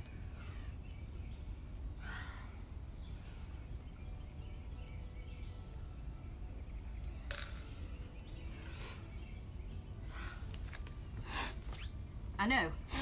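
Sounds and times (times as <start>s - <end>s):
low background rumble: 0.0s - 11.3s.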